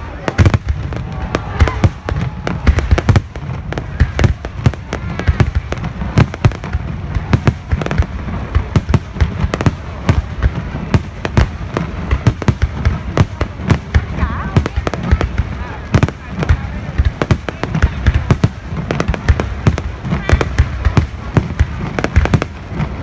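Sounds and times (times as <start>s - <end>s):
fireworks bangs and crackles: 0.0s - 23.0s
low rumble of explosions: 0.0s - 23.0s.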